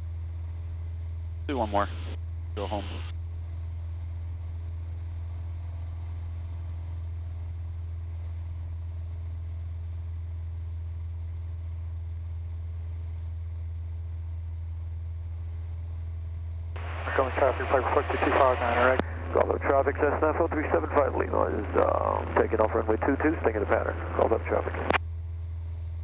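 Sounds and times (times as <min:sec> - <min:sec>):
airplane engine droning: 0:00.0 - 0:25.0.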